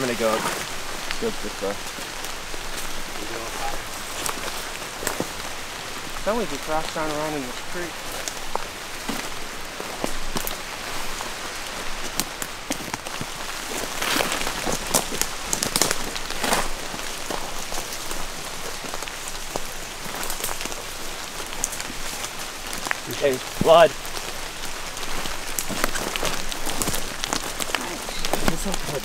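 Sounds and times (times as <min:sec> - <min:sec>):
footsteps crunching through leaves: 0:00.0 - 0:29.0
twigs crackling: 0:00.0 - 0:29.0.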